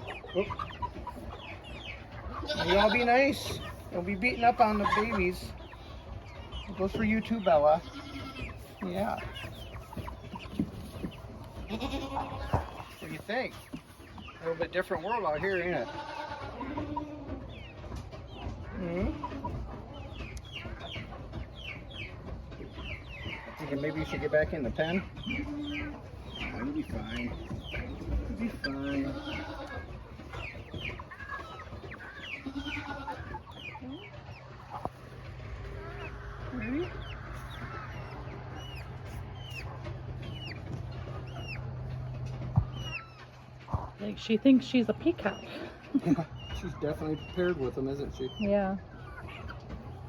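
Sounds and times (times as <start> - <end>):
chicks peeping: 0.0 - 50.0.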